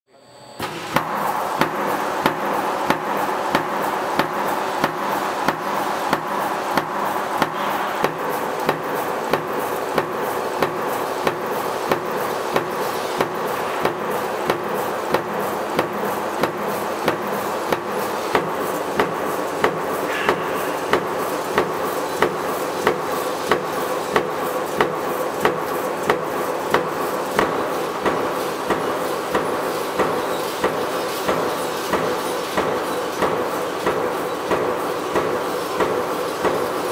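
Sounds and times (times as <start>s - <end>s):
machine hum: 0.1s - 32.2s
power press punching strokes: 0.6s - 36.7s.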